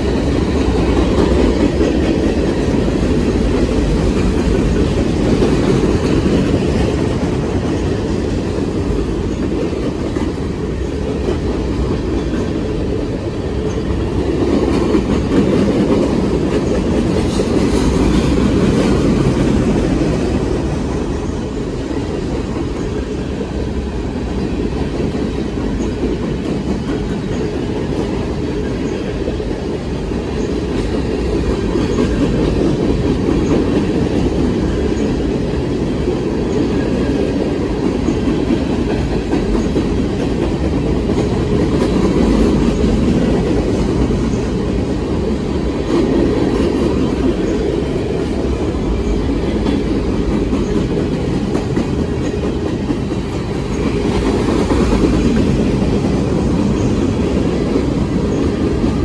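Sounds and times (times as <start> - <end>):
train wheels clacking over rail joints: 0.0 - 59.0.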